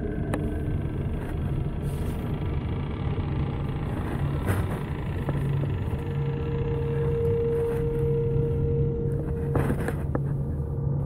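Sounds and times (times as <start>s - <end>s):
low rumbling drone: 0.0s - 11.0s.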